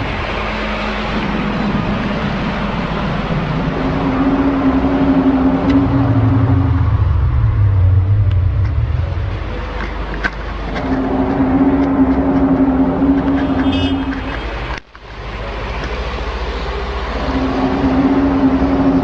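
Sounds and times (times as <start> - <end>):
deep hum: 0.0 - 19.0
loud low drone: 0.0 - 19.0
steady rushing noise: 0.0 - 19.0.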